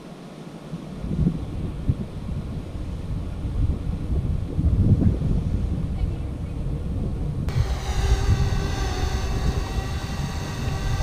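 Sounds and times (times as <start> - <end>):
wind on microphone: 0.6 - 11.0
airboat engine and propeller drone: 1.6 - 11.0.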